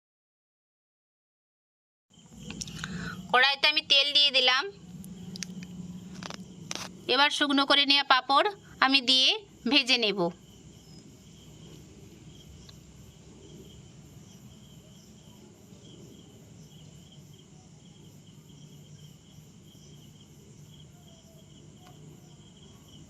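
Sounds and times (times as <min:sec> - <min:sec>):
insects chirping: 0:02.1 - 0:23.0
low steady hum: 0:02.2 - 0:21.0.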